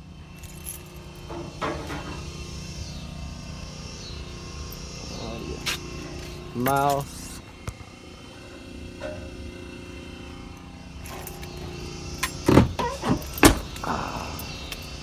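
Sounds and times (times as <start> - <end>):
vehicle idling hum: 0.0 - 15.0.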